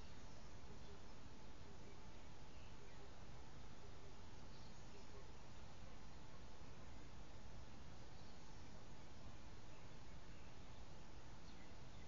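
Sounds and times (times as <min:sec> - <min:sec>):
faint bird chirps: 0:00.0 - 0:12.0
steady low hiss: 0:00.0 - 0:12.0.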